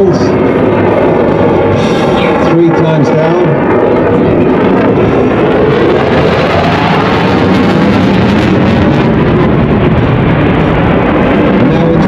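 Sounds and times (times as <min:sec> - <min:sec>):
fighter jet engine roar: 0:00.0 - 0:12.0.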